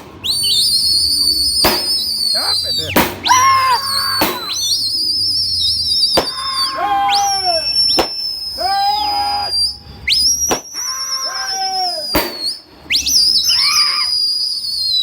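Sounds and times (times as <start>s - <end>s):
shrill warbling whistles: 0.0s - 15.0s
short falling calls: 0.2s - 15.0s.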